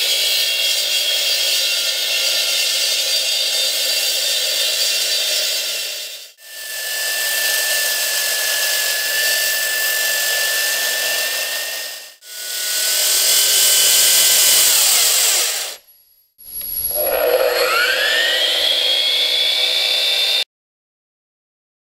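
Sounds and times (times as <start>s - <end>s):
concrete saw cutting: 0.0s - 15.9s, 16.5s - 20.5s.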